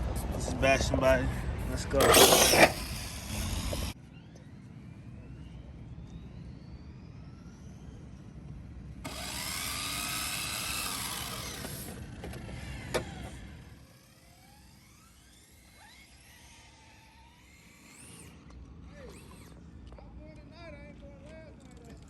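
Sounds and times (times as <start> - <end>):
electric rc car motor whining: 1.8 - 20.1.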